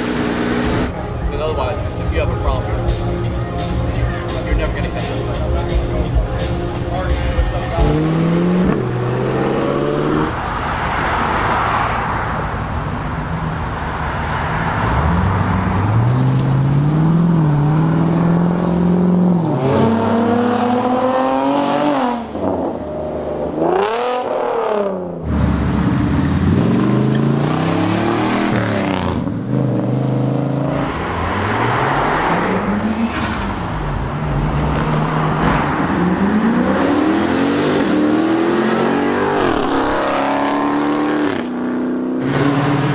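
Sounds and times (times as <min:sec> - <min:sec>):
cars accelerating past revving: 0:06.4 - 0:12.9, 0:13.6 - 0:42.9.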